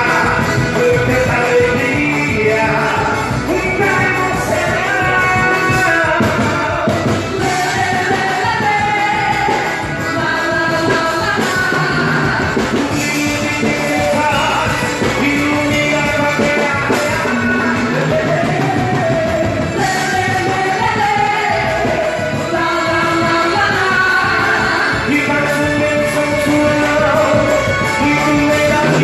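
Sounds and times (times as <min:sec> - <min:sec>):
band playing lively song: 0:00.0 - 0:29.0
person singing: 0:00.0 - 0:29.0.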